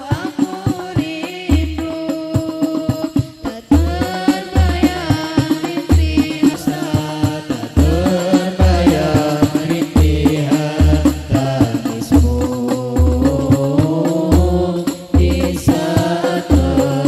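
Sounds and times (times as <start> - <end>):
deep frame drum beats: 0.0 - 17.0
group chant-like singing: 0.0 - 17.0.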